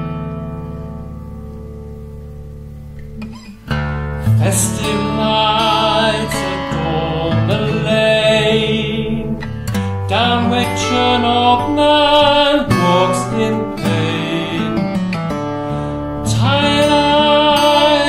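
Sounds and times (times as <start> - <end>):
acoustic guitar: 0.0 - 18.0.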